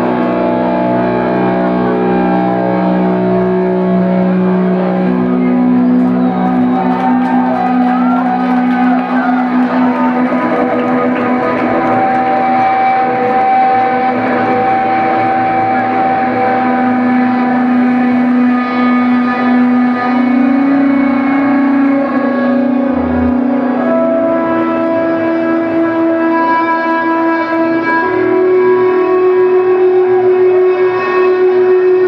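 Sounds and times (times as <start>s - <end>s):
live band held notes over drone: 0.0s - 32.0s.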